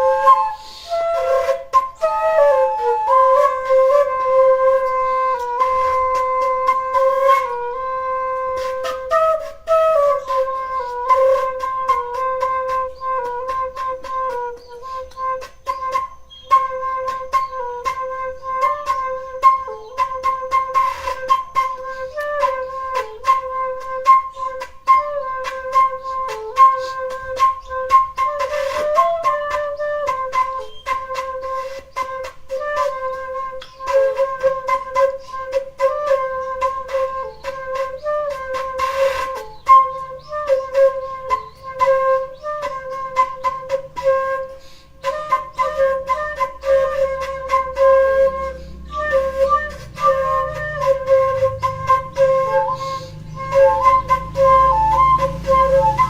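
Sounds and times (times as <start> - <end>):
flute-like melody: 0.0 - 56.0.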